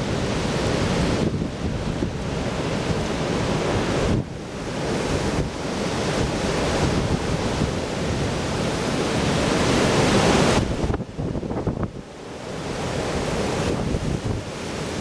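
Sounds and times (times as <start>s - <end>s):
wind buffeting microphone: 0.0s - 12.0s, 12.8s - 15.0s.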